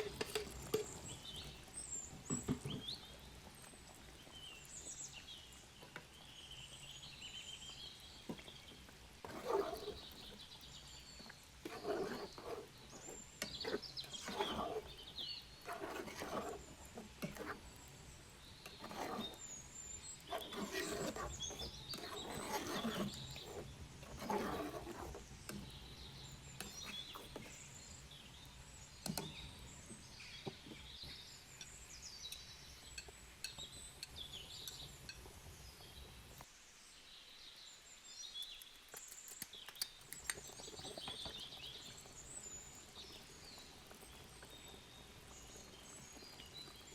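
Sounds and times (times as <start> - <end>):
intermittent noisy sounds: 0.0 - 46.9
small birds chirping: 0.0 - 46.9.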